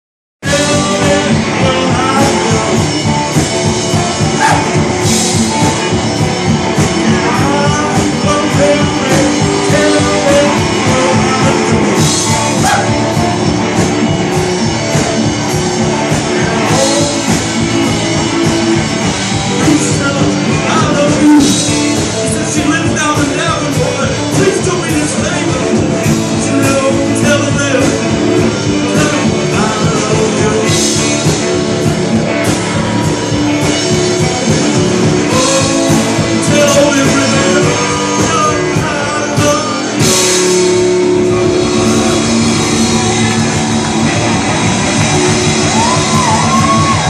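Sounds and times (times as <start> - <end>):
drum kit beat: 0.4 - 47.0.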